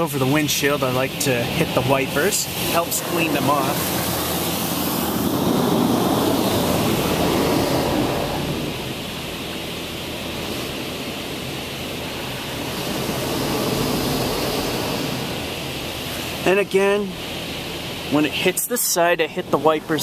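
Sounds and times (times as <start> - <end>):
water jets spraying a car: 0.0 - 20.0.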